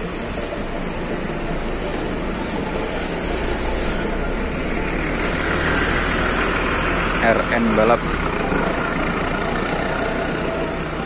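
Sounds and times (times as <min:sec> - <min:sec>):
bus engine passing: 0:00.0 - 0:11.0.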